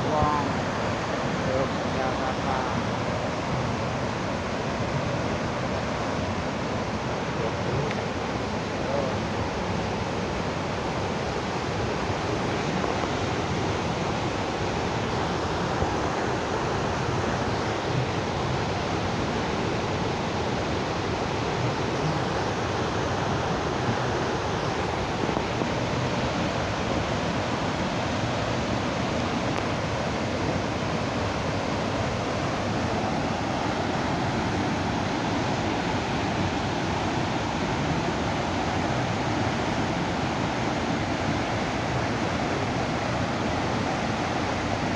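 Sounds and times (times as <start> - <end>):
floodwater rushing over weirs: 0.0 - 44.9.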